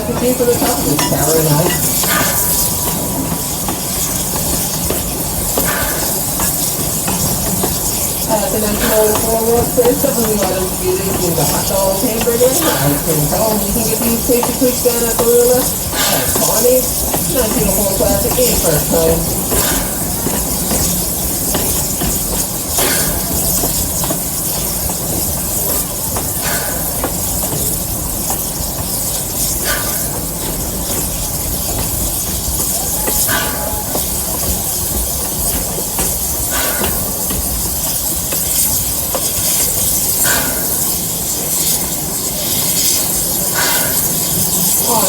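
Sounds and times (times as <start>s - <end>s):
hiss and rumble of moving train: 0.0s - 45.0s
train wheel clack: 0.0s - 45.0s.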